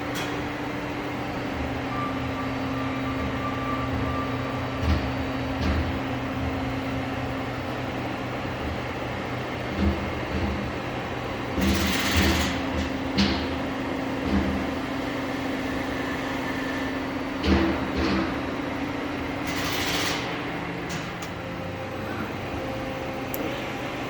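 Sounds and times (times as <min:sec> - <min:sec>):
lathe machine hum: 0:00.0 - 0:24.0.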